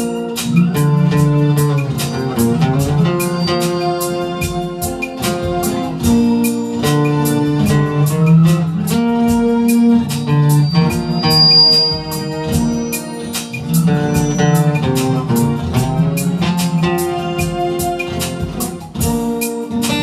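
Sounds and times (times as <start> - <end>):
guitar playing: 0.0 - 20.0
held chords: 0.0 - 20.0
steady beat: 0.0 - 20.0.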